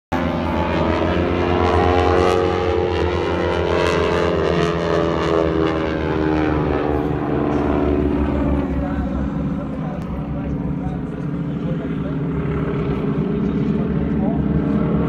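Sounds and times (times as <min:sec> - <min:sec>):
aircraft engines droning: 0:00.1 - 0:15.0.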